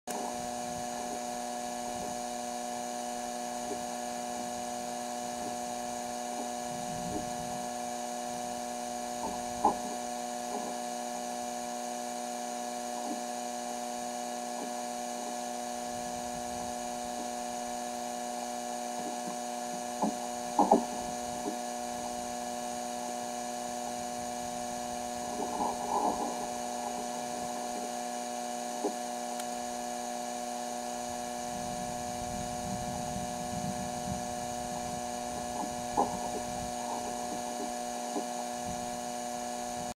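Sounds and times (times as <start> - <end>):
electrical hum: 0.1 - 39.9.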